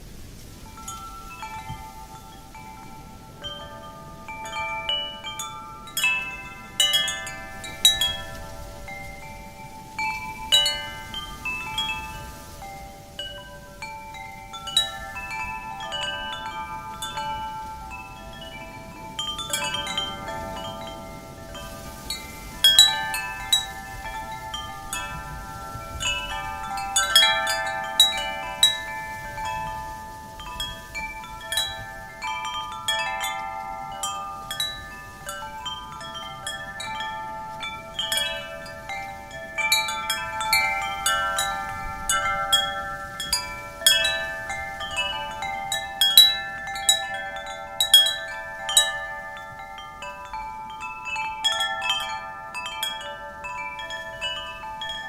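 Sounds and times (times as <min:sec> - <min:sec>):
soft wind: 0:00.0 - 0:55.0
wind chimes ringing: 0:00.0 - 0:55.0.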